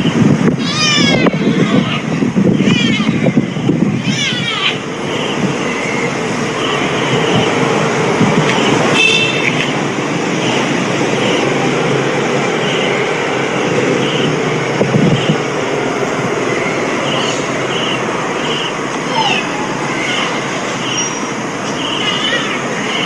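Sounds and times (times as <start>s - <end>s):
high-pitched squeal: 0.0s - 23.0s
moving vehicle rumbling: 0.0s - 23.0s.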